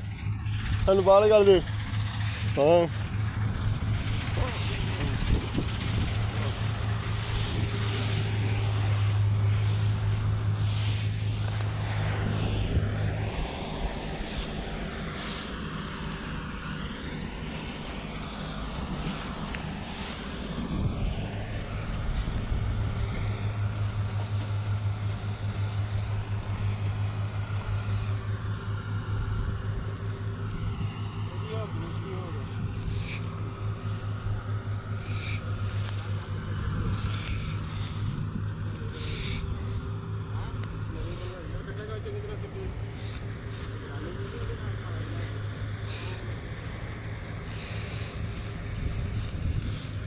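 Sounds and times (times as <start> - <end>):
harvester engine droning: 0.0 - 50.0.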